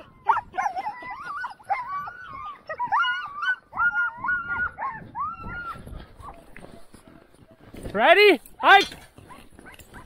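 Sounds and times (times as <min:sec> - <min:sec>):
dogs whining and yipping: 0:00.0 - 0:07.7, 0:09.2 - 0:10.0.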